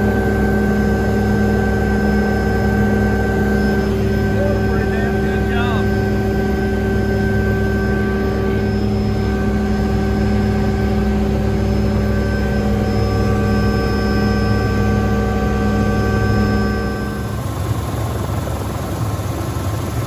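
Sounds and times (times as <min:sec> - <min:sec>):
helicopter engine and rotor drone: 0:00.0 - 0:20.0
helicopter whining tones: 0:00.0 - 0:20.0.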